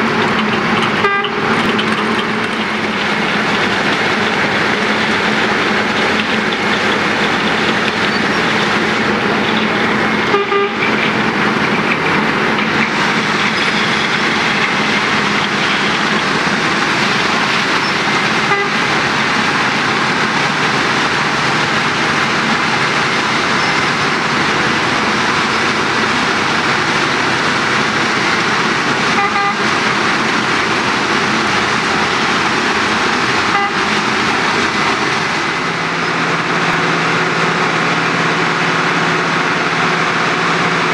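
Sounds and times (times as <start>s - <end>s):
milling machine grinding asphalt: 0.0s - 40.9s.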